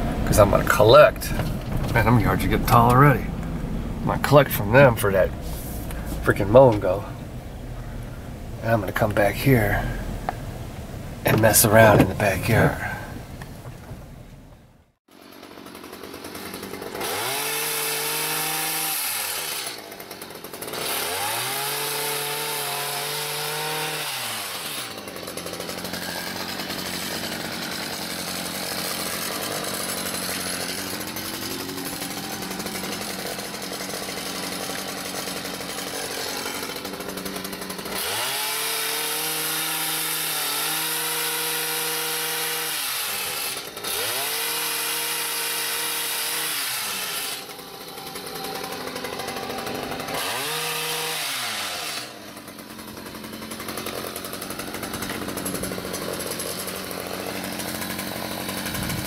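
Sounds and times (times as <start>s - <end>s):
hedge trimmer revving: 0.0s - 10.5s, 11.2s - 13.5s, 15.1s - 59.0s.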